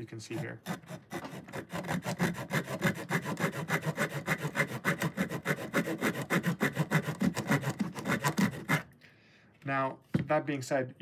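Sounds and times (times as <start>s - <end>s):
small saw cutting wood: 0.0s - 8.9s.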